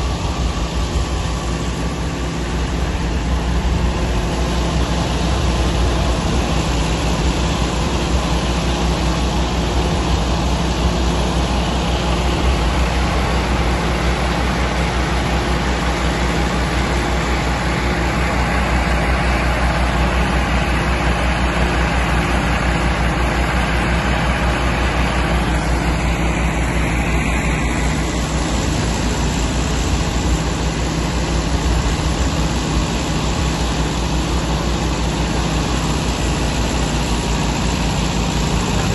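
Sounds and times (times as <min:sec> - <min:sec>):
thresher rushing noise: 0:00.0 - 0:38.9
tractor diesel engine running: 0:00.0 - 0:38.9.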